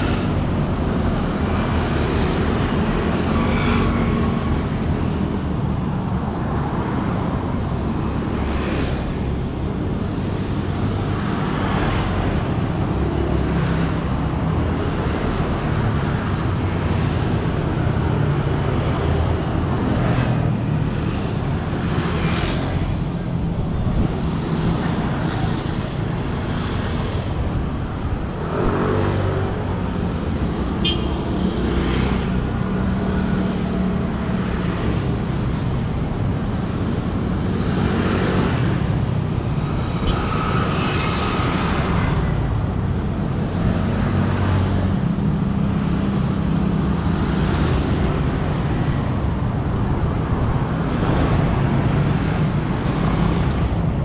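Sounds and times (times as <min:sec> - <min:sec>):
city road traffic rumble: 0:00.0 - 0:54.0
vehicles passing: 0:00.0 - 0:54.0.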